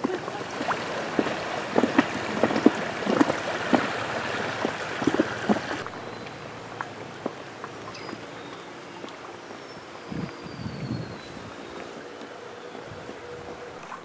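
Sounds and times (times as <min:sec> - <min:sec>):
river water rushing: 0:00.0 - 0:14.0
water splashing around canoe: 0:00.0 - 0:14.0.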